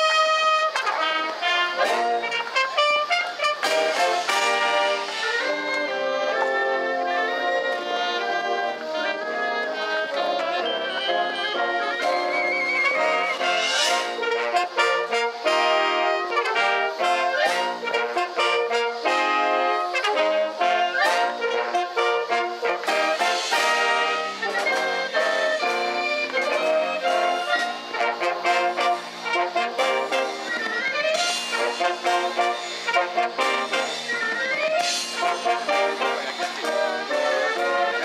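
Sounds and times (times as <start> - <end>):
wind band playing lively piece: 0.0 - 38.0.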